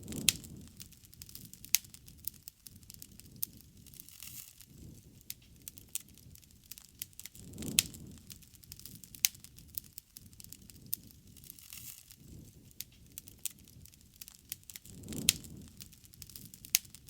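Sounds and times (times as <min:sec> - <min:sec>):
bonfire crackling: 0:00.0 - 0:17.0
rush of burning flames: 0:00.0 - 0:17.0.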